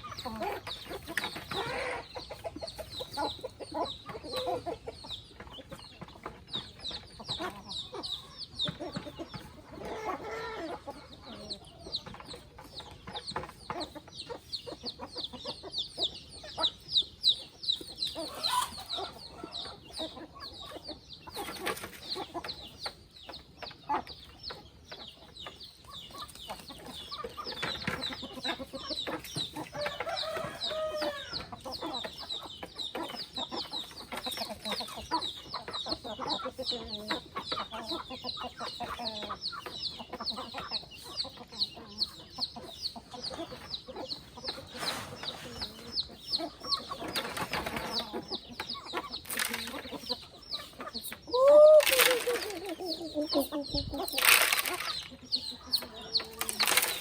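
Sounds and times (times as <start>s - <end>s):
chickens clucking: 0.0s - 57.0s
chicks peeping: 0.0s - 57.0s.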